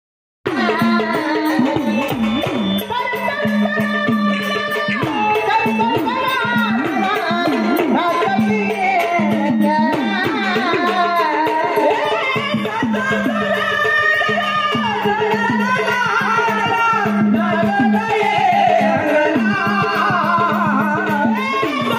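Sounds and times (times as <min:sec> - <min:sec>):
tabla playing: 0:00.4 - 0:21.9.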